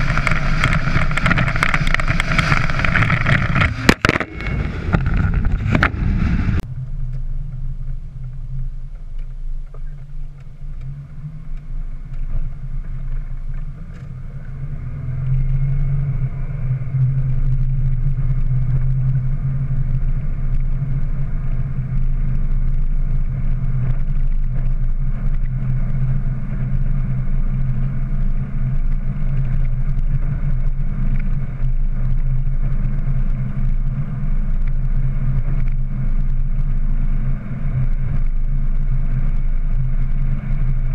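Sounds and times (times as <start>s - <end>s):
engine and road drone: 0.0s - 40.9s.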